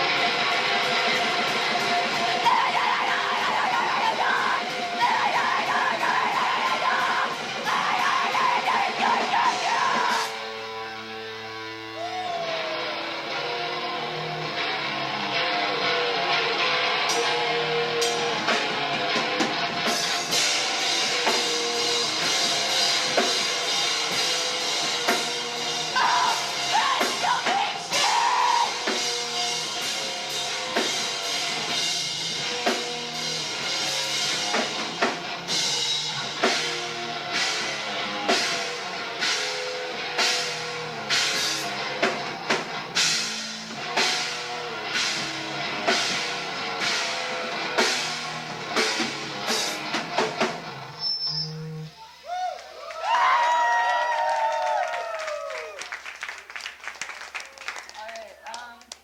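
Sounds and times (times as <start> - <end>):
live rock band playing: 0.0 - 52.2.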